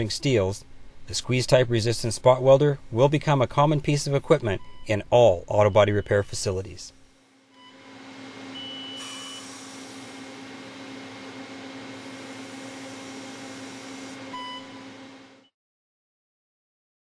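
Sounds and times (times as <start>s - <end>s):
steady hum and hiss: 0.0s - 15.5s.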